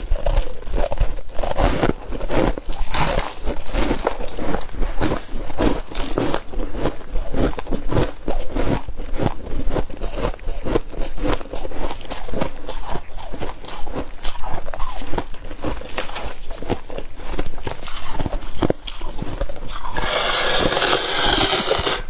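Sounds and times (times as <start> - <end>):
chewing crunchy frost: 0.0 - 22.0.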